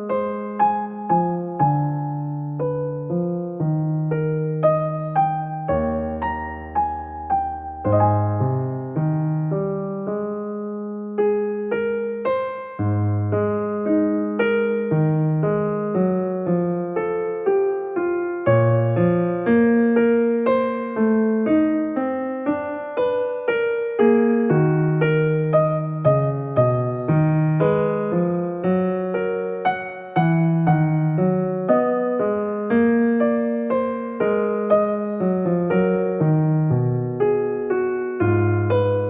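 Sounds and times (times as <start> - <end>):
soft piano music: 0.0 - 39.0.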